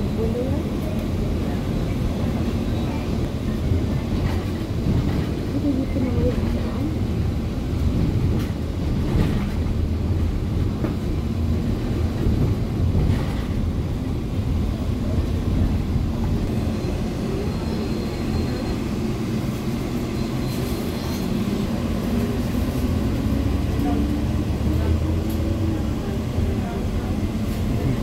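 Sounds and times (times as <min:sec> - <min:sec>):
bus diesel engine: 0:00.0 - 0:28.0
road rumble: 0:00.0 - 0:28.0.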